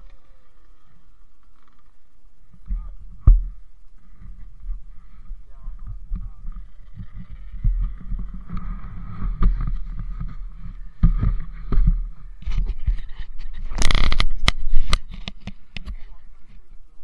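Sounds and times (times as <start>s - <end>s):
dirt bike rumbling: 0.0s - 16.3s.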